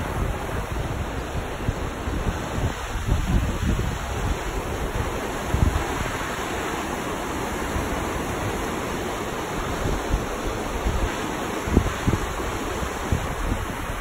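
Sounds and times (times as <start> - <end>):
river rapids rushing over rocks: 0.0 - 14.0
wind buffeting microphone: 0.0 - 14.0.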